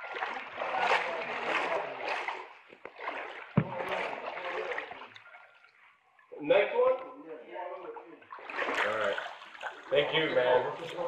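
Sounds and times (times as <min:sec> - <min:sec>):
water sloshing around wading legs: 0:00.0 - 0:06.3, 0:07.0 - 0:11.0.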